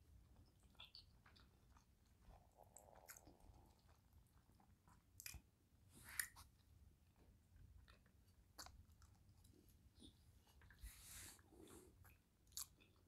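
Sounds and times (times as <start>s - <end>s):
chewing soft food: 0.0s - 13.0s.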